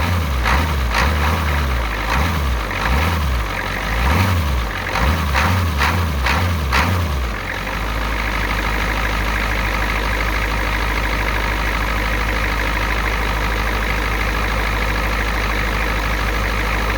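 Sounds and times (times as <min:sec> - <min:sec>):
diesel engine revving and idling: 0:00.0 - 0:16.9.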